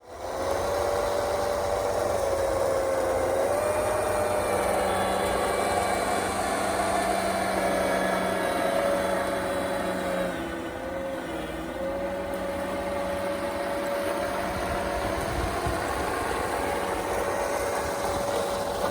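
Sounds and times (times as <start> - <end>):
electric motors whining: 0.0 - 18.9.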